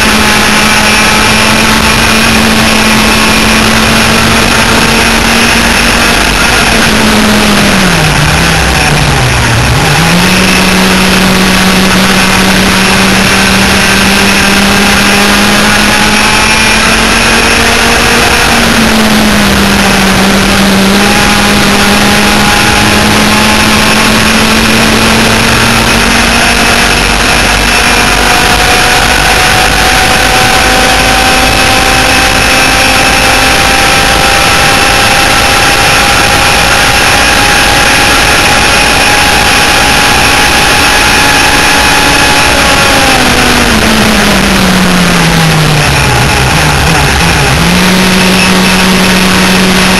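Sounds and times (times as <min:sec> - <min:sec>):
two-stroke kart engines revving: 0:00.0 - 0:49.9.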